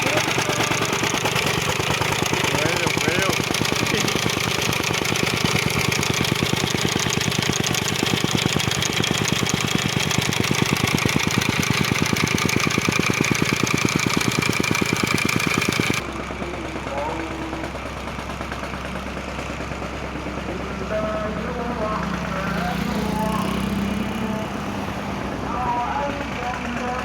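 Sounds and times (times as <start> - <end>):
excavator clattering on asphalt: 0.0 - 27.0.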